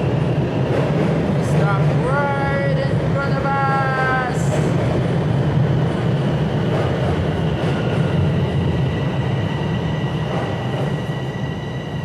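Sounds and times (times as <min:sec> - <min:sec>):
high-pitched train whine: 0:00.0 - 0:12.0
subway train rumble: 0:00.0 - 0:12.0.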